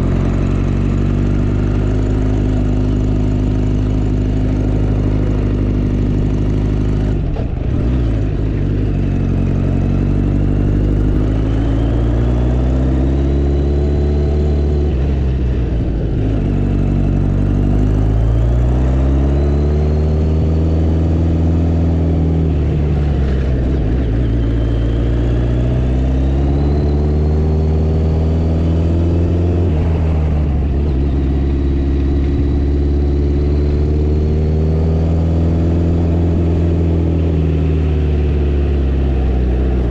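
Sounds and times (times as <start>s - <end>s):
motorcycle engine changing gears: 0.0s - 39.9s
road and wind noise: 0.0s - 39.9s.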